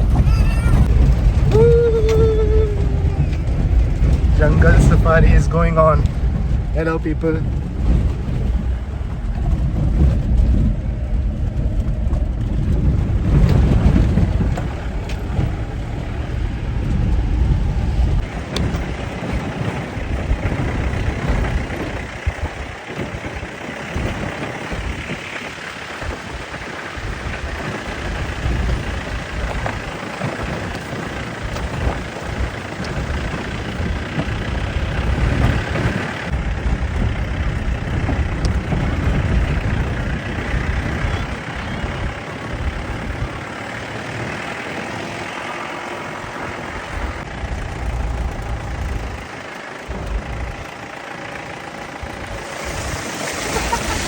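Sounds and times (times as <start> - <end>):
jeep engine rumbling: 0.0 - 54.0.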